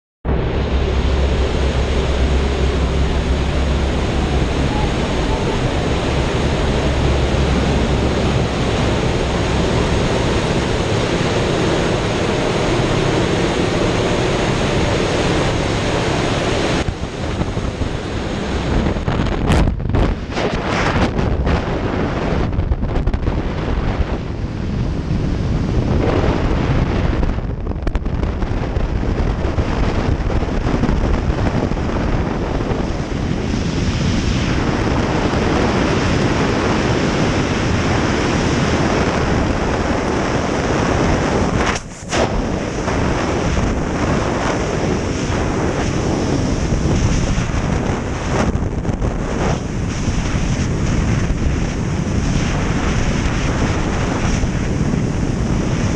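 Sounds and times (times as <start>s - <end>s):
wind roaring over microphone: 0.2s - 55.9s.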